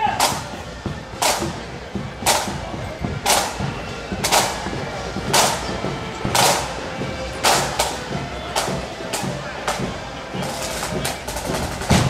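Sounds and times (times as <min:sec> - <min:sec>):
bass drum and cymbals marching beat: 0:00.0 - 0:12.0.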